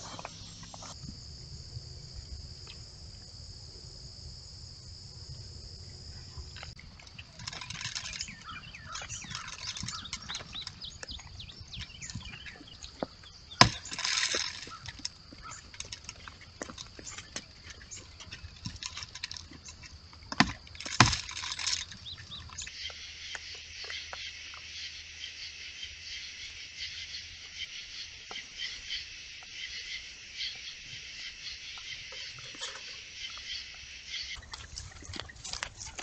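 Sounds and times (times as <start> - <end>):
raccoons feeding: 0.0 - 1.0, 5.2 - 36.0
night insects chorus: 0.0 - 36.0.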